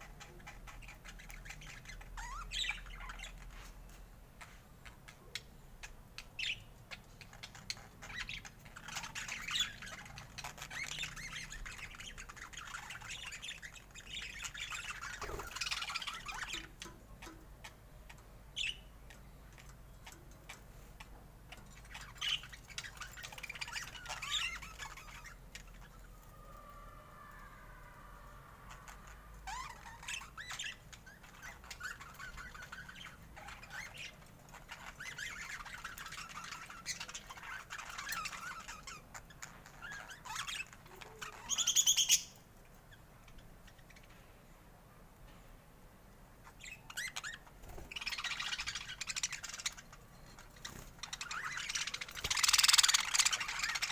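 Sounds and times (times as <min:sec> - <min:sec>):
budgerigars chirping and warbling: 0:00.0 - 0:42.5, 0:46.4 - 0:53.9.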